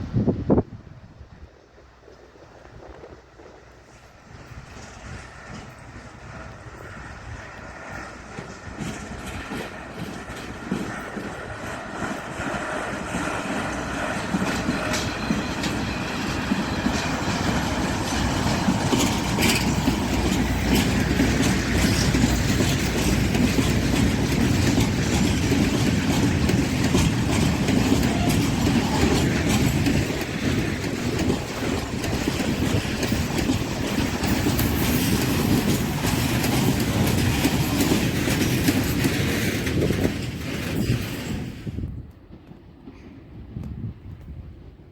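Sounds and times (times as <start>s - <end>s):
train wheels clattering on rails: 3.8s - 44.3s.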